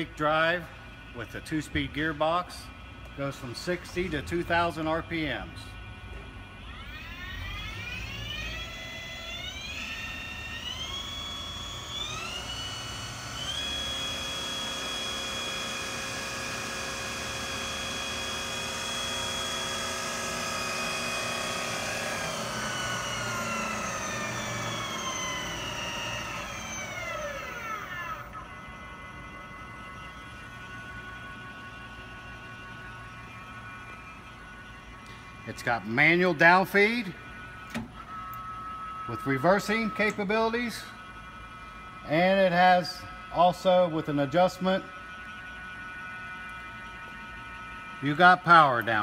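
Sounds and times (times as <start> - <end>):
drill press motor whining: 0.0 - 49.0.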